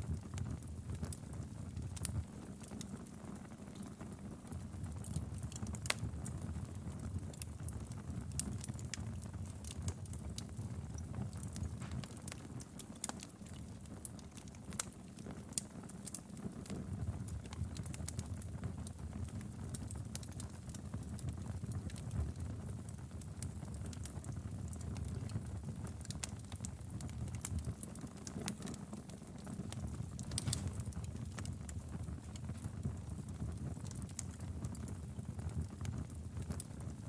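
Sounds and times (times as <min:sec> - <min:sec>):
fire crackling and popping: 0:00.0 - 0:37.0
low rumble of flames: 0:00.0 - 0:37.0.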